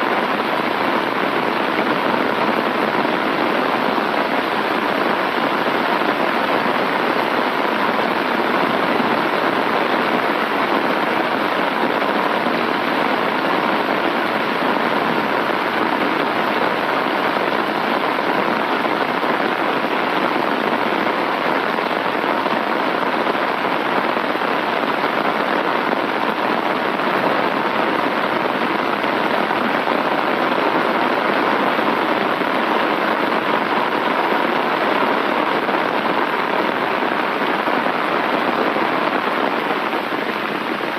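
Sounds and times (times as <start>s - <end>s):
heavy rain on an umbrella: 0.0s - 40.9s.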